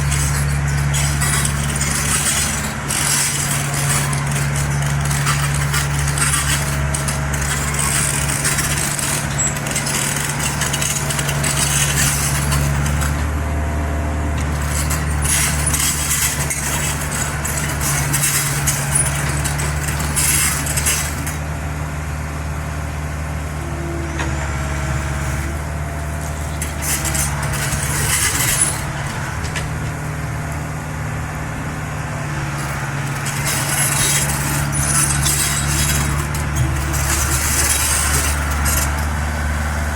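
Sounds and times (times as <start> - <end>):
hydraulic hiss and clatter: 0.0 - 13.4, 14.3 - 21.5, 24.1 - 30.7, 32.2 - 39.9
excavator engine running: 0.0 - 39.9.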